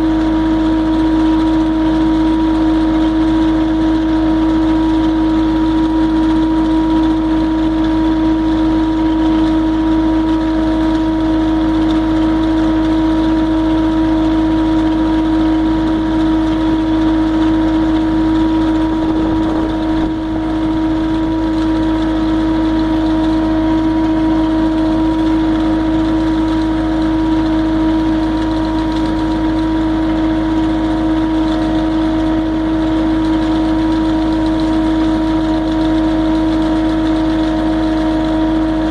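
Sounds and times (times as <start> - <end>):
loader engine and hydraulics humming: 0.0 - 38.9.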